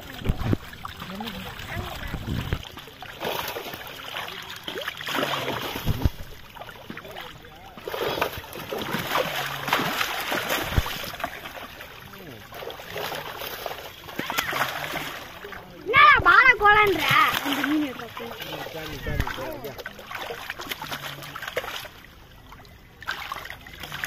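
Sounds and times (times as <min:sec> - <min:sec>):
fish thrashing and splashing water: 0:00.0 - 0:24.0.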